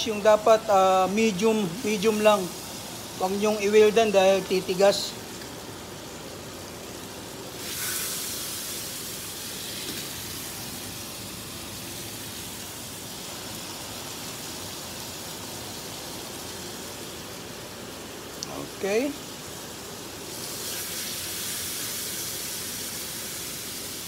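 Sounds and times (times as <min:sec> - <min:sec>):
steak sizzling in a frying pan: 0:00.0 - 0:24.0.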